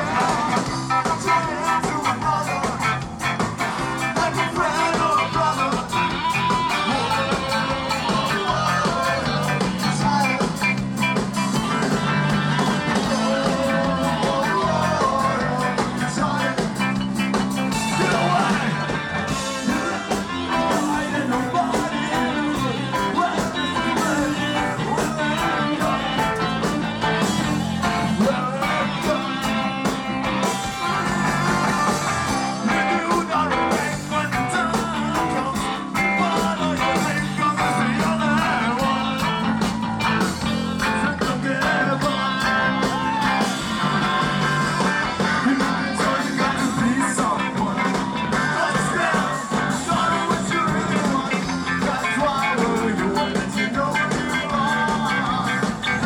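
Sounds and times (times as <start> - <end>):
person singing: 0.0 - 56.0
ska band playing: 0.0 - 56.0.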